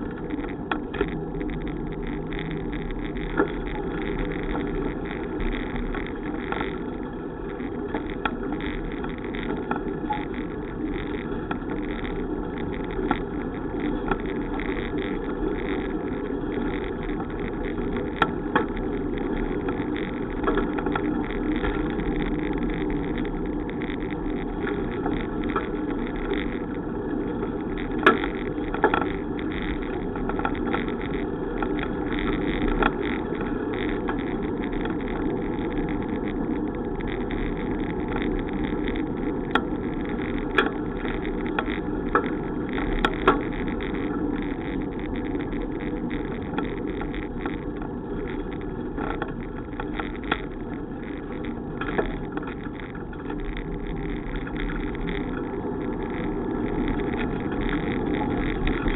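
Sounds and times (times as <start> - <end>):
bicycle riding rumble and hiss: 0.0 - 58.9.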